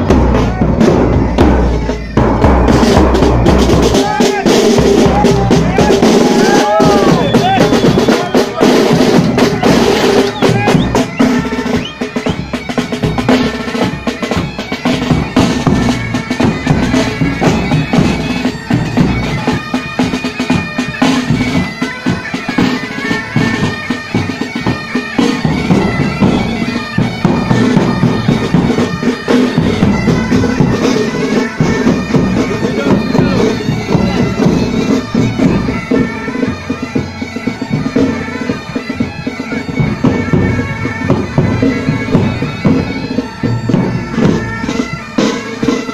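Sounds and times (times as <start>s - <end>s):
bagpipes droning: 0.0s - 45.9s
side drums: 0.0s - 45.9s.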